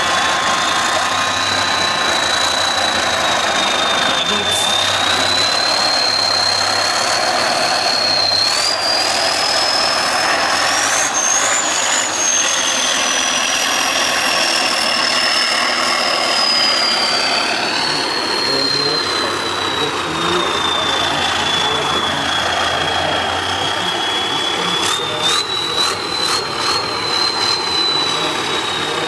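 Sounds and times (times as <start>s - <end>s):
diesel truck engine under load: 0.0s - 29.0s
high engine whine: 0.0s - 29.0s.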